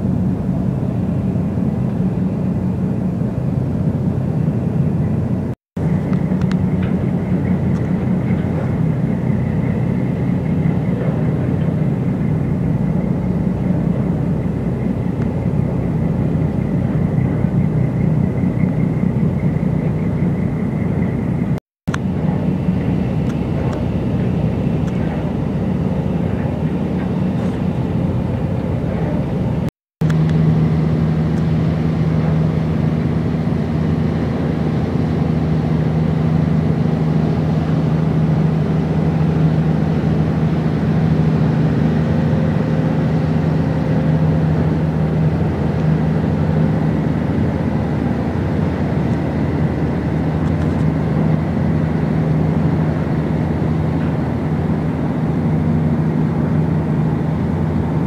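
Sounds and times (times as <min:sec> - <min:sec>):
noisy wash: 0:00.0 - 0:58.0
ship diesel engine droning: 0:00.0 - 0:58.0.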